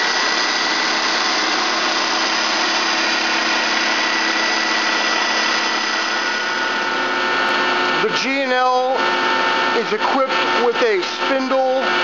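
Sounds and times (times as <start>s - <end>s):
machine spindle whirring with high tone: 0.0s - 12.0s.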